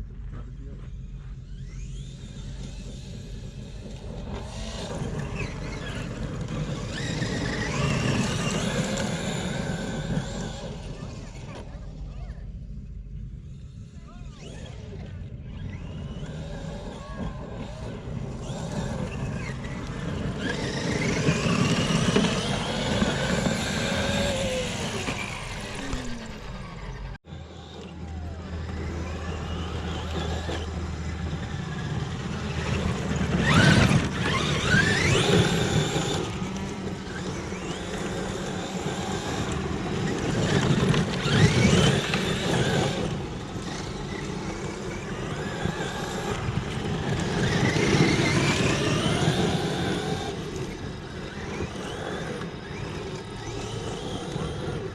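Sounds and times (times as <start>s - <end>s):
electric motor whining: 0.2s - 54.9s.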